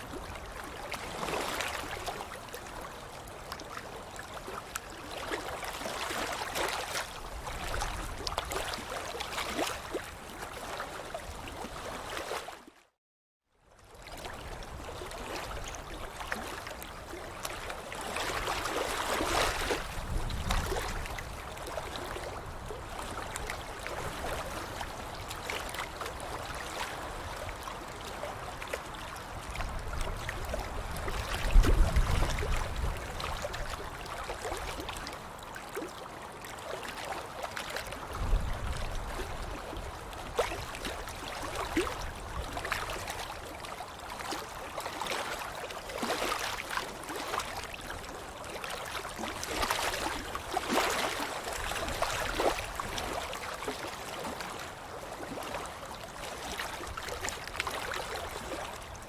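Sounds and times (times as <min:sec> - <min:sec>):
water splashing and sloshing: 0:00.0 - 0:13.0, 0:13.8 - 0:59.0.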